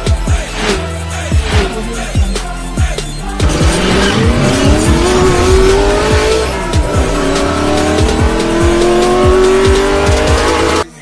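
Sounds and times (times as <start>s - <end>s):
music with thumping beat: 0.0s - 11.0s
racing car engine revving: 0.4s - 2.2s, 3.3s - 11.0s.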